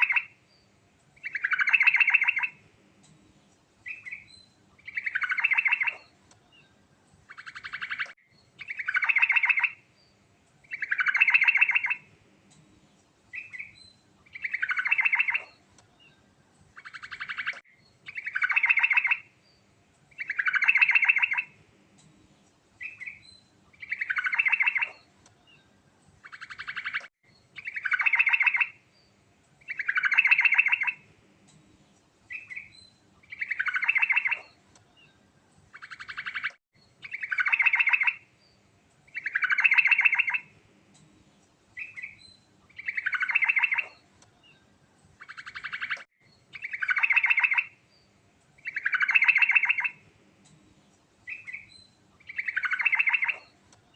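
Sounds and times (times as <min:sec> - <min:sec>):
bulbul singing: 0:00.0 - 0:02.7, 0:03.8 - 0:12.6, 0:13.3 - 0:22.1, 0:22.8 - 0:31.6, 0:32.3 - 0:41.1, 0:41.8 - 0:53.9.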